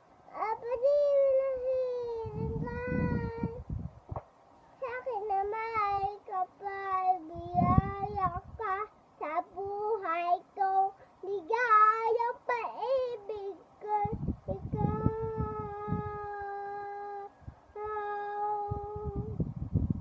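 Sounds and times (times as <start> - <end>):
girl singing: 0.3 - 3.6, 4.8 - 19.4.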